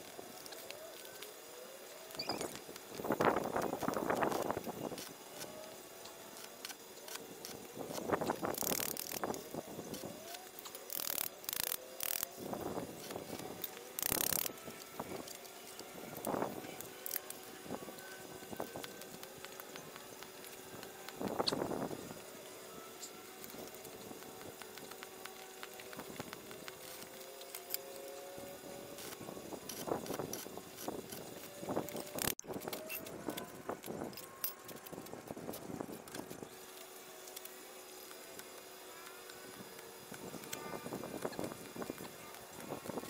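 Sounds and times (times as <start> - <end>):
arc welding crackling: 0.0 - 43.0
faint steady hum: 0.0 - 43.0.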